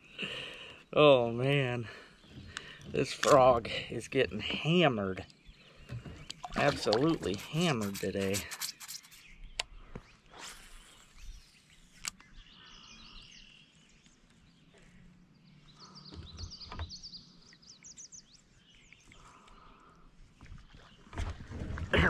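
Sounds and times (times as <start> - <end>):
faint outdoor background noise: 0.0 - 22.0
small birds chirping: 0.4 - 21.1.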